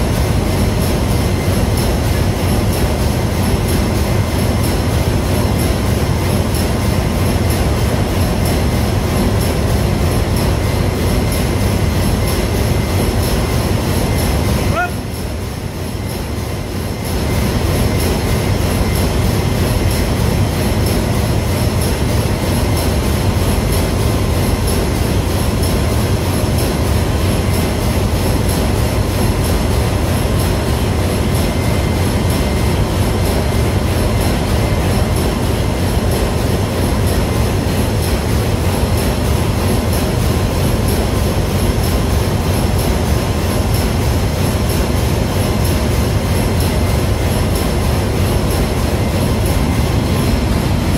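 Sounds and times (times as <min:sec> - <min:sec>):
engine room machinery drone: 0:00.0 - 0:50.9
high machinery whines: 0:00.0 - 0:50.9.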